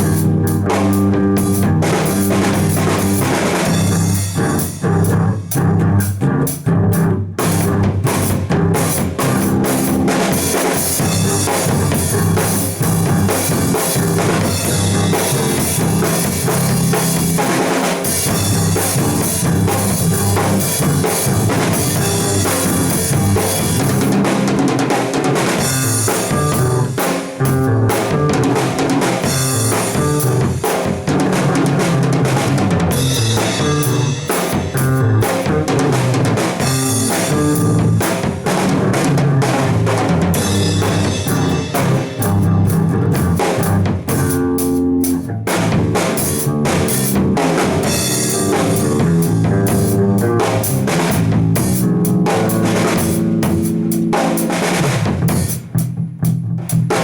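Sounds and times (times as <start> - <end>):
bass notes: 0.0 - 57.0
drum kit beat: 0.0 - 57.0.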